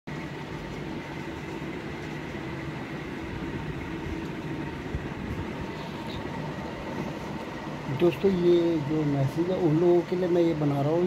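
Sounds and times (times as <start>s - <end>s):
electric fan whirring: 0.1s - 11.0s
faint constant tones: 0.1s - 11.0s.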